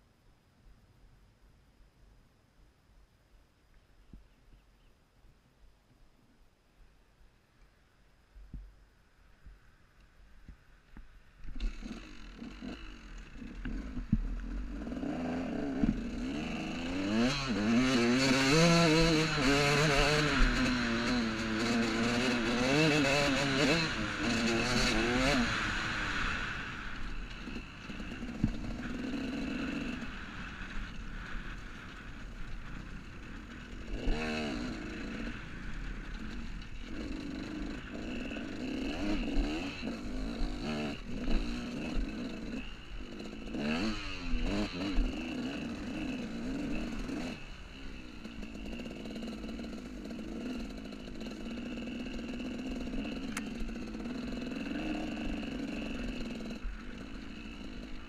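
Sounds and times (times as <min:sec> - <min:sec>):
motorbike engine revving: 0:11.5 - 0:58.0.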